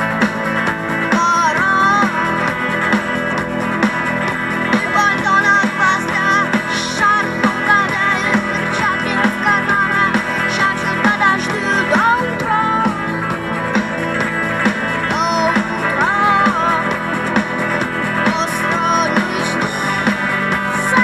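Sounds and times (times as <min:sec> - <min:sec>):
rock music instrumental: 0:00.0 - 0:21.0.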